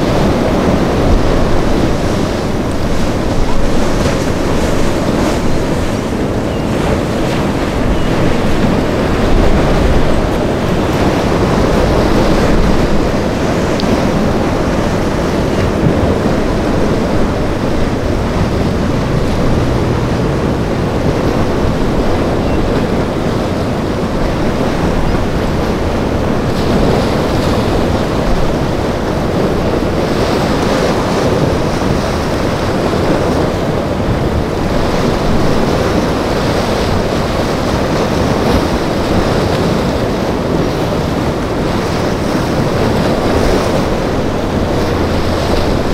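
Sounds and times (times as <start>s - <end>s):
surf and breaking waves: 0.0s - 45.9s
wind buffeting microphone: 0.0s - 45.9s.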